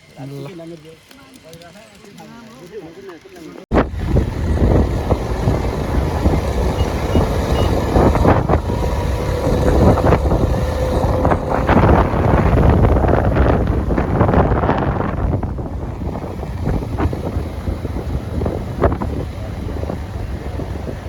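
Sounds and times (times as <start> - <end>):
steady rushing noise: 3.7 - 21.0
wind buffeting microphone: 3.7 - 21.0.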